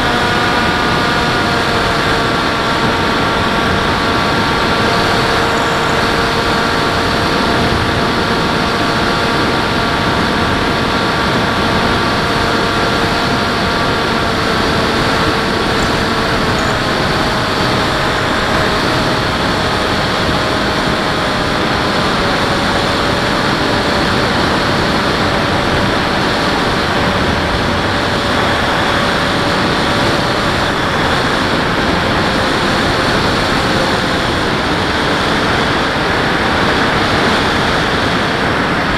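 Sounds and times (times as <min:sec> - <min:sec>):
model airplane motor whine: 0:00.0 - 0:38.9.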